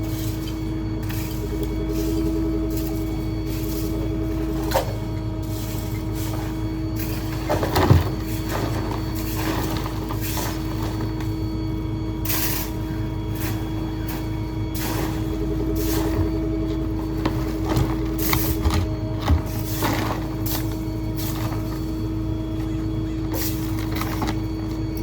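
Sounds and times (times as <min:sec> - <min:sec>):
garbage truck engine running: 0:00.0 - 0:25.0
steady whine: 0:00.0 - 0:25.0.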